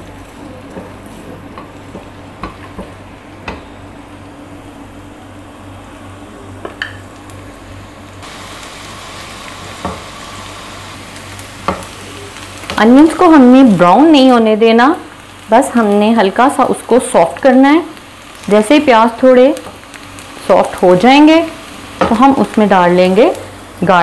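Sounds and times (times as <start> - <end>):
onion sizzling in oil: 0.0 - 24.0.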